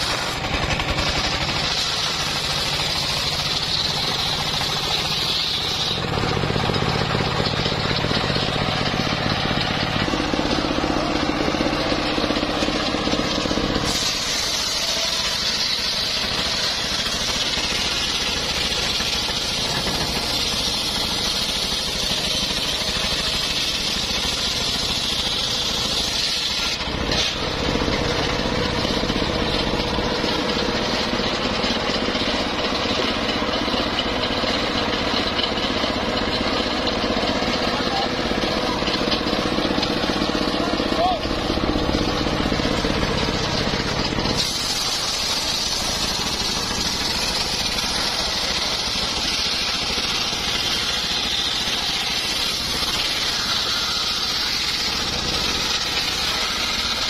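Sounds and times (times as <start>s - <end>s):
saw blade hissing through wood: 0.0s - 34.4s, 37.6s - 57.0s
motor hum: 0.0s - 57.0s.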